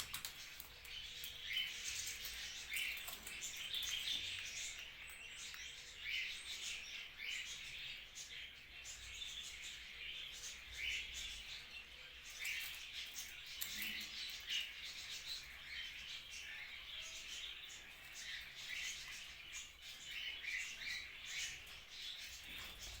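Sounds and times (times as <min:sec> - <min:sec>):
birds chirping and chattering: 0:00.0 - 0:23.0.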